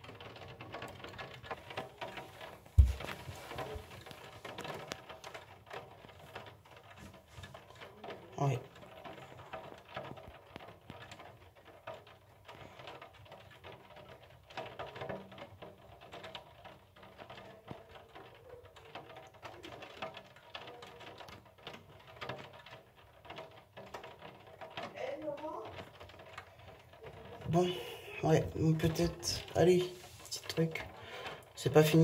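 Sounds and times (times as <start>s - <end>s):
raindrops tapping on window glass: 0.0s - 32.0s.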